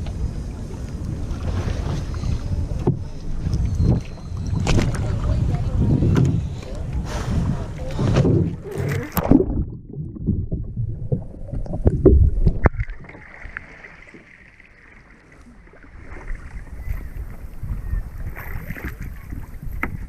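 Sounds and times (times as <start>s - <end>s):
water splashing around kayak: 0.0s - 20.0s.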